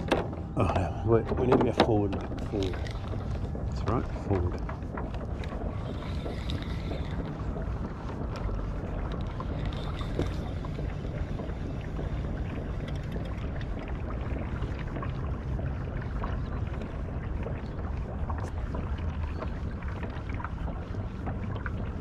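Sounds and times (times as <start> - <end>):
boat motor humming: 0.0 - 22.0
water noise: 0.0 - 22.0.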